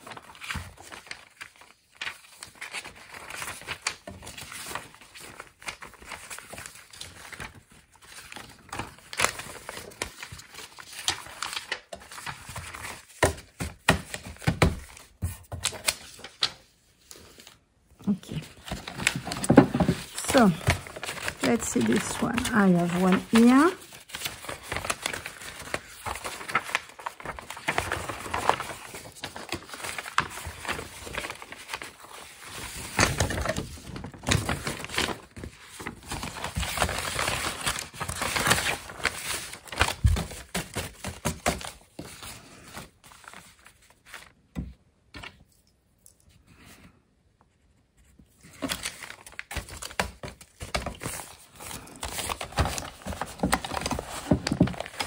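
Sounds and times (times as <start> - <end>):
paper rustling and sliding: 0.0 - 17.6, 18.3 - 44.4, 47.6 - 55.0.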